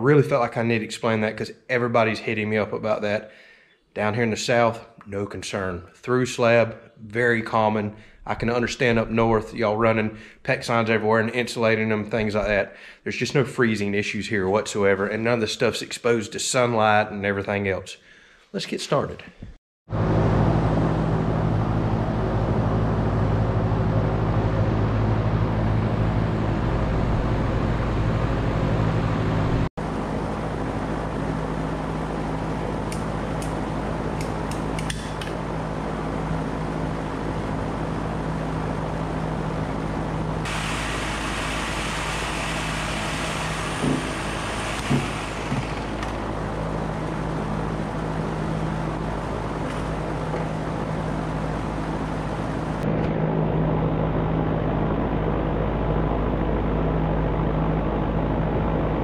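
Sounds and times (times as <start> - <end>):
steady mechanical hum: 4.0 - 17.0, 18.9 - 59.0.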